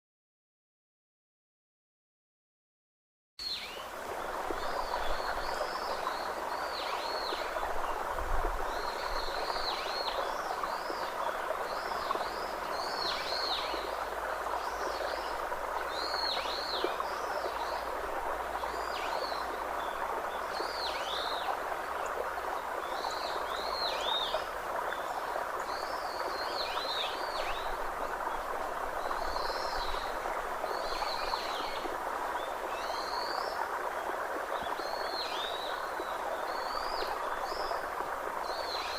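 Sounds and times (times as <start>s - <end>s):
rushing natural ambience: 3.4s - 38.9s.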